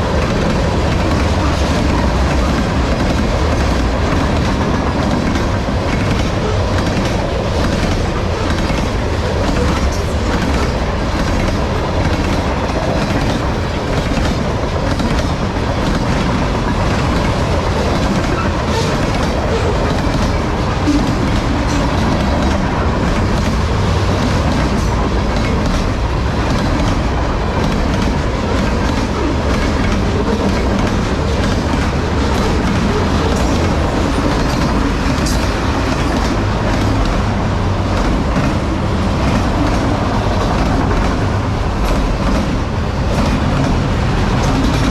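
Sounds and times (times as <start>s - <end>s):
railway cars rumbling: 0.0s - 44.9s
train wheels clicking over joints: 0.0s - 44.9s.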